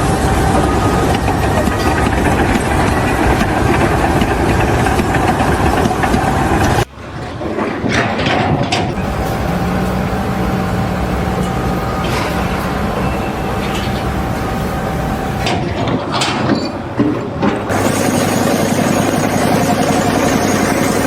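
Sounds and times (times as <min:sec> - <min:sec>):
loud machinery engine noise: 0:00.0 - 0:21.0.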